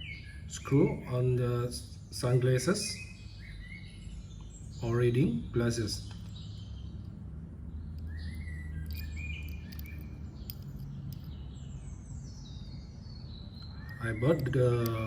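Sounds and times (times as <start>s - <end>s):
birds chirping: 0.0s - 15.0s
low steady hum: 0.0s - 15.0s.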